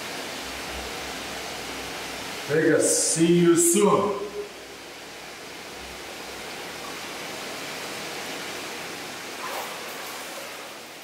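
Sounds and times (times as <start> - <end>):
water rushing in plunge pool: 0.0 - 11.0.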